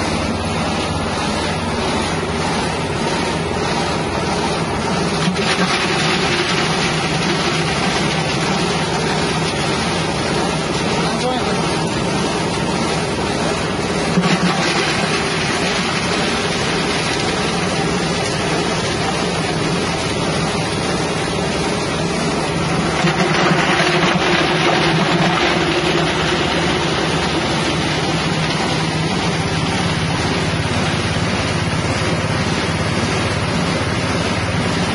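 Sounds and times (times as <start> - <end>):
engine-driven spice grinder running: 0.0 - 34.9.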